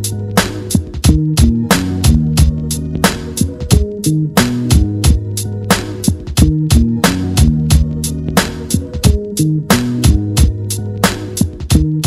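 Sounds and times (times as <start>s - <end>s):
bass line: 0.0s - 12.0s
steady drum beat: 0.0s - 12.0s.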